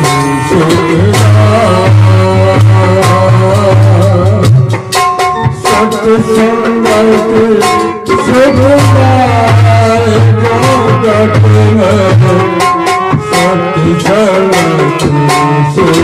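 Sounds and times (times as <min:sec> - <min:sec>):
drum beats: 0:00.0 - 0:16.0
held melody notes: 0:00.0 - 0:16.0.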